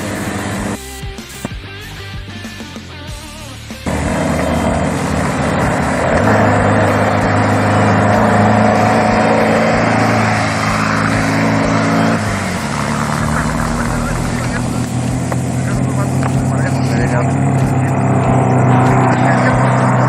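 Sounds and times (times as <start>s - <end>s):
race vehicle engine revving hard: 0.0s - 0.8s, 3.8s - 20.0s
loud rushing noise: 3.8s - 20.0s.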